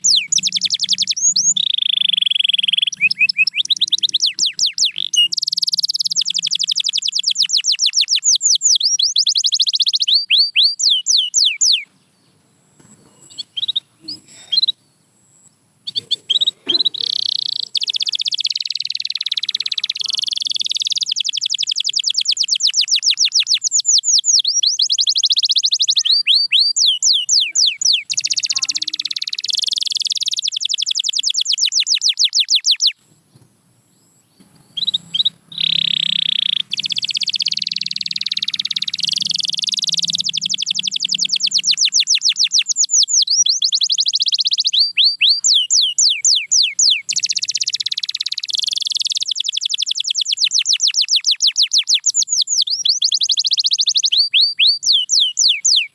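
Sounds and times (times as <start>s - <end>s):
canary trilling: 0.0s - 11.9s, 15.8s - 33.0s, 34.4s - 55.9s.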